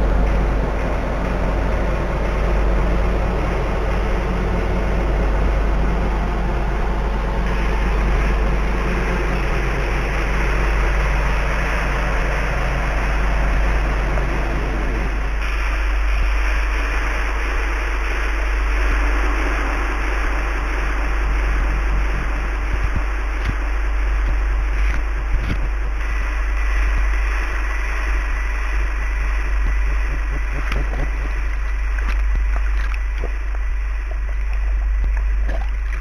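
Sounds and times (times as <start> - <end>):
cable car running on tracks: 0.0 - 35.4
wind rumble on microphone: 0.0 - 36.0.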